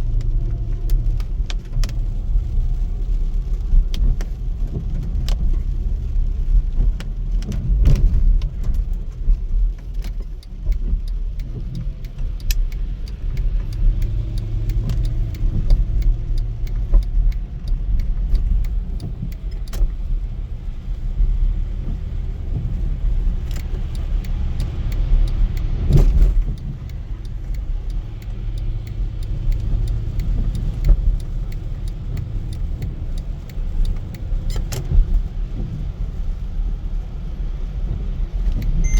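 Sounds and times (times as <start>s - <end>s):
car road rumble: 0.0s - 38.9s
light clicks and ticks: 0.1s - 38.9s.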